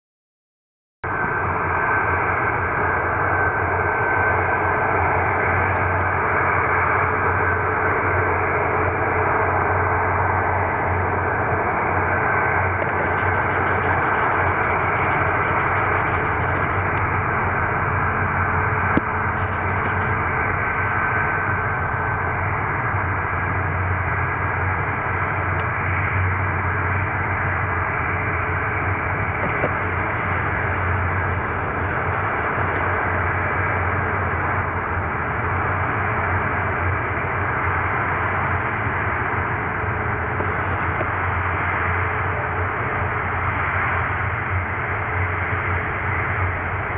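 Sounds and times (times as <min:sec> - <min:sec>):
distant jet engine rumble: 0:01.0 - 0:46.9
faint high engine whine: 0:01.0 - 0:46.9.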